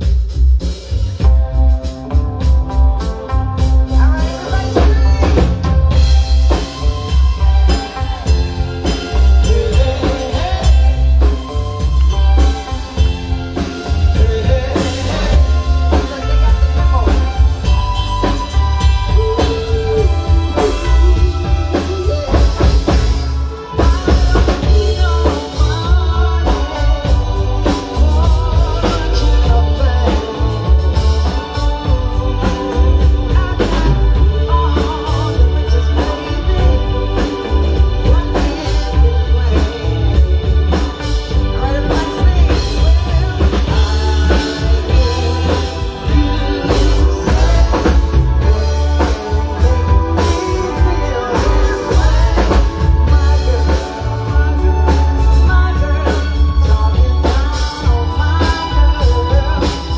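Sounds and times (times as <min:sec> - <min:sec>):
driving drum kit: 0:00.0 - 0:59.9
live band playing: 0:00.0 - 0:59.9.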